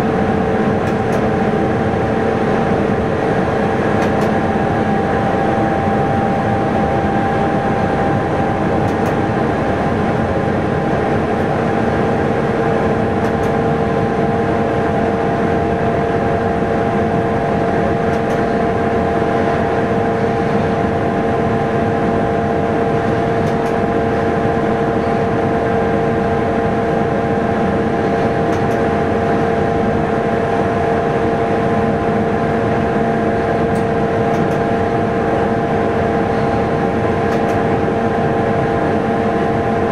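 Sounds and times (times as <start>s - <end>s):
steady hum: 0.0s - 39.9s
train running noise: 0.0s - 39.9s.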